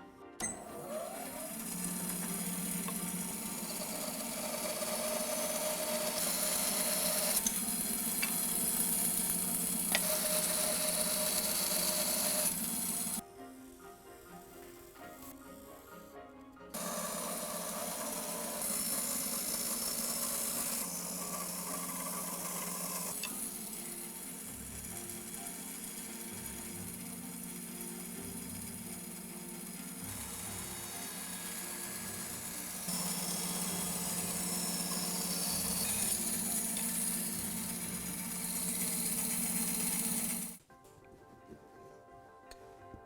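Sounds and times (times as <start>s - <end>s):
bandsaw cutting wood: 0.4s - 13.2s, 16.8s - 40.6s.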